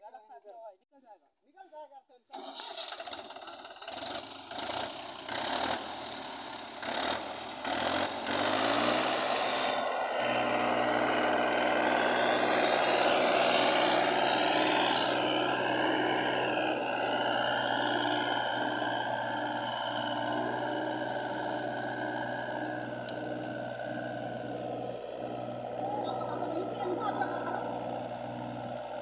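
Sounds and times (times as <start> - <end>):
tractor diesel engine under load: 2.3 - 29.0.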